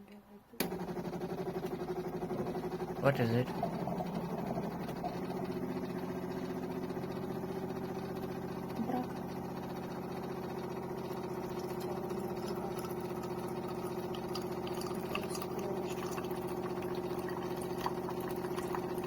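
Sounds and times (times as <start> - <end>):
coffee machine motor humming: 0.6 - 19.0.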